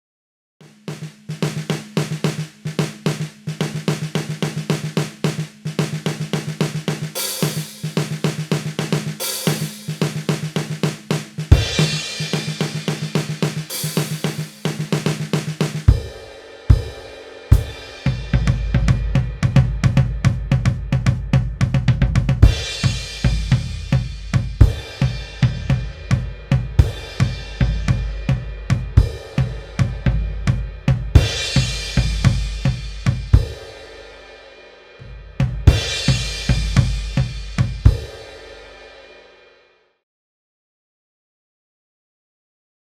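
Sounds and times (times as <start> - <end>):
snare and tom strokes: 0.6 - 21.1, 21.7 - 34.2, 35.4 - 39.0
cymbal crashes: 0.7 - 20.1, 22.4 - 39.4
hi-hat: 0.8 - 20.0, 22.4 - 38.8
bass drum: 0.9 - 16.9, 17.5 - 33.7, 35.0 - 38.4.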